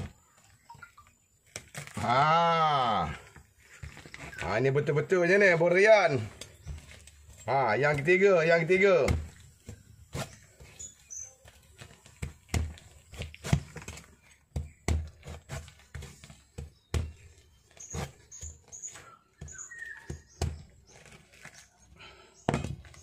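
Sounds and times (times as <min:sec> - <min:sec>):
fruit husk cracking and splitting: 0:01.4 - 0:23.0.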